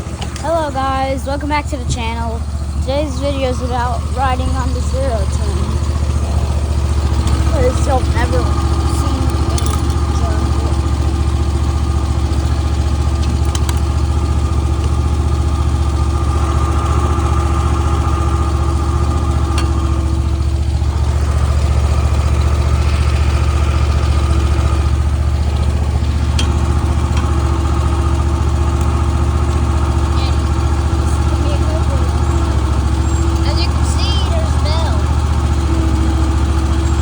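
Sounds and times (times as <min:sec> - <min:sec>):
riding mower engine droning: 0:00.0 - 0:37.0.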